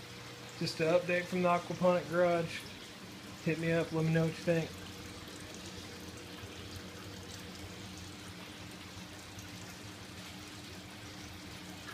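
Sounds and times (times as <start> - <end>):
steady low hum: 0.0 - 11.9
water trickling and splashing: 0.0 - 11.9.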